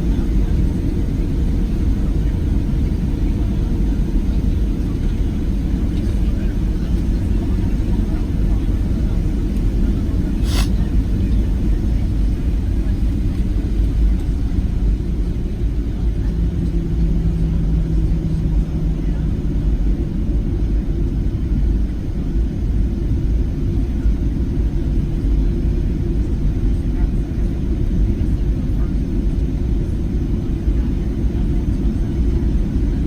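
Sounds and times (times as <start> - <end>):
jet engine cabin rumble: 0.0 - 33.0.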